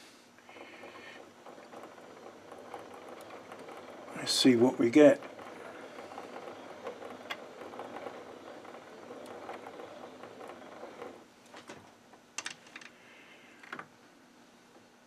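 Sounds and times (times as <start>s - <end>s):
lathe gear rattle and clicks: 0.4s - 12.6s.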